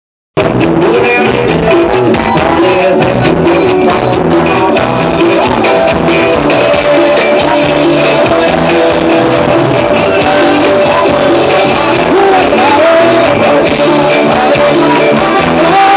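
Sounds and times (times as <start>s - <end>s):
dance band playing: 0.4s - 15.9s.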